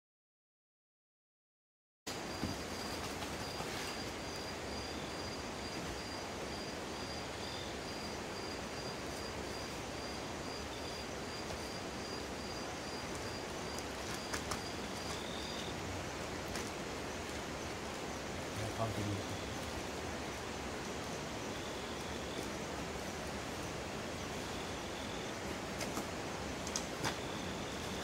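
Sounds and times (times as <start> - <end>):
insect chirping: 2.1 - 28.0
outdoor hiss: 2.1 - 28.0.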